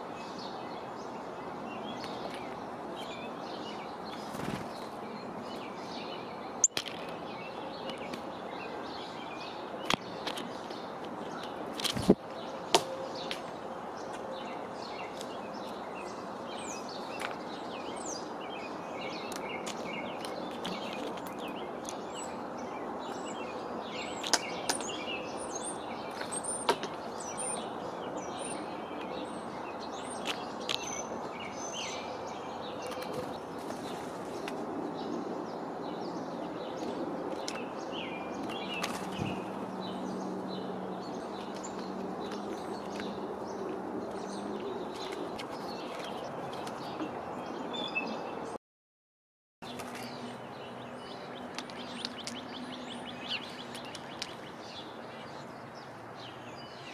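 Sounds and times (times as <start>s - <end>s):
small birds chirping: 0.0s - 48.6s, 49.6s - 56.9s.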